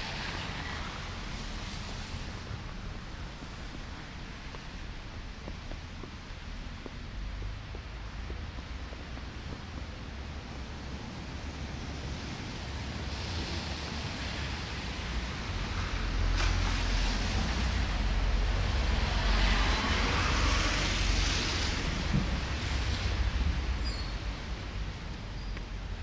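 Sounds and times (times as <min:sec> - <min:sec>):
wind buffeting microphone: 0:01.0 - 0:26.0.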